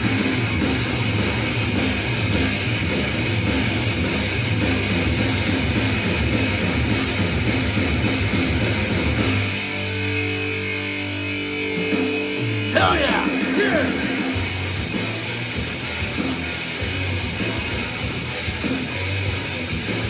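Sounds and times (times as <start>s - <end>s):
heavy rock music: 0.0s - 20.0s.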